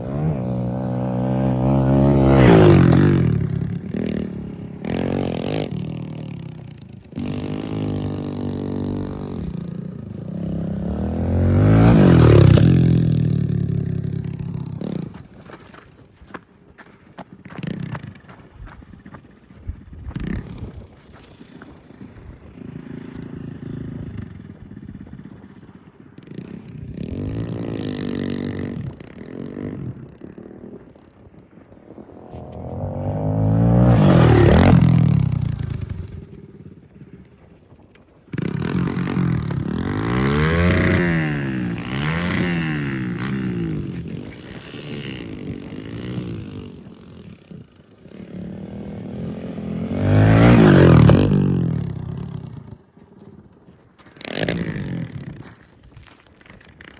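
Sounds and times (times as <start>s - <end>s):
pit bike engine revving: 0.0s - 15.8s, 17.4s - 37.5s, 38.3s - 56.9s.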